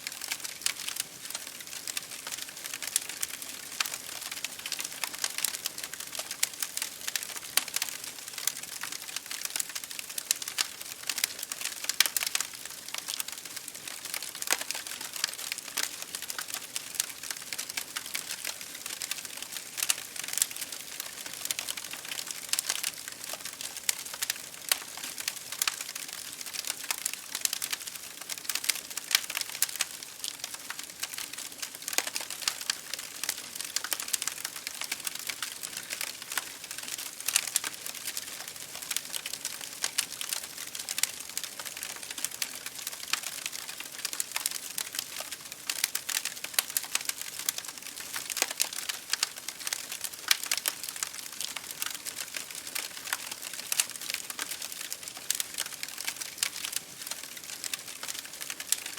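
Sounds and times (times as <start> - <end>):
rain pattering on window: 0.0 - 58.9
wood fire crackling: 0.0 - 58.9.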